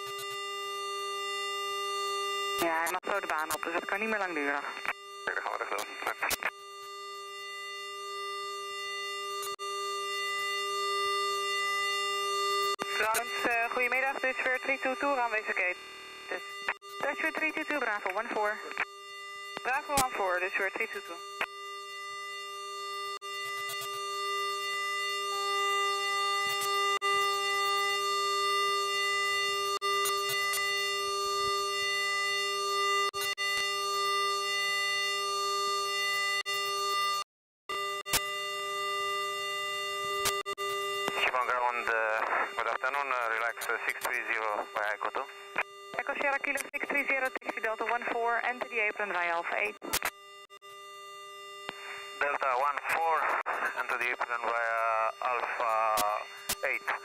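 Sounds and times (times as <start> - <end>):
steady cockpit hum: 0.0 - 57.0.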